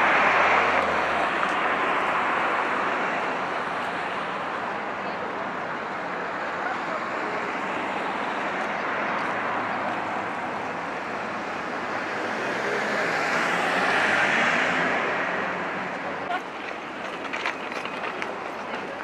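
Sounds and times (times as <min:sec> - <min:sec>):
passing vehicle noise: 0:00.0 - 0:19.0.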